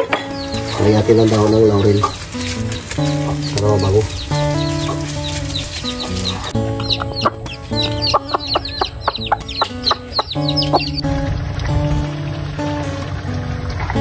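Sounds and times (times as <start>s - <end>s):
chicks peeping: 0.0s - 12.1s
hen clucking: 0.0s - 12.1s
background music with held notes: 0.0s - 14.0s.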